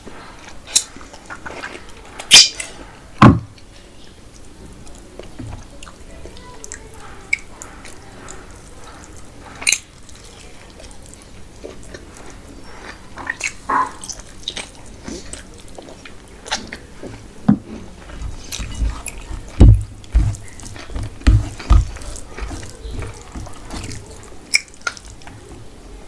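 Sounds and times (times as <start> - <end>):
wet chewing and mouth sounds: 0.0 - 3.0, 4.3 - 26.0.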